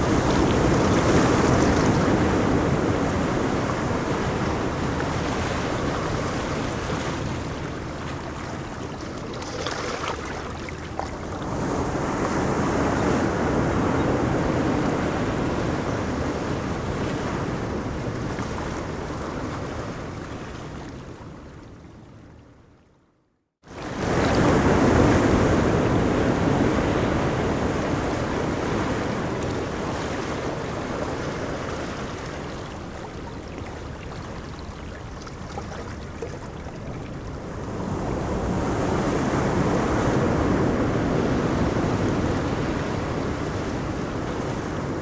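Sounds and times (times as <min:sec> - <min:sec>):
waves breaking on beach: 0:00.0 - 0:21.6, 0:23.7 - 0:45.0.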